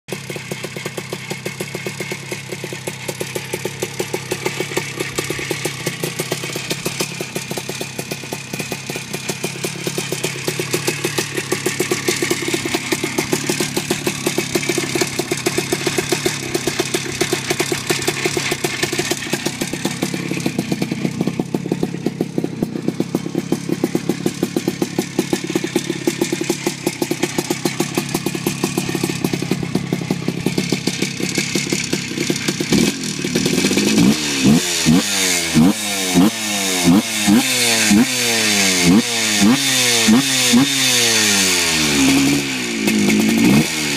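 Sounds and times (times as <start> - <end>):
two-stroke engine running: 0.1 - 43.9.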